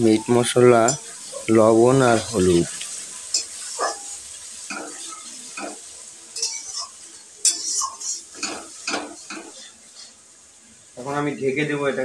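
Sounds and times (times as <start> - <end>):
oil sizzling: 0.0 - 12.0
metal spatula scraping a pan: 0.1 - 10.3.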